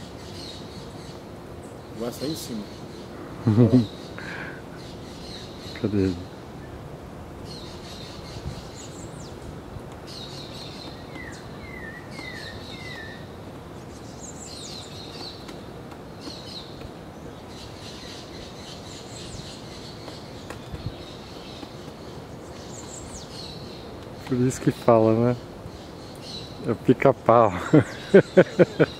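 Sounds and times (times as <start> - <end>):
birds chirping: 0.0 - 28.9
steady outdoor hiss: 0.0 - 28.9.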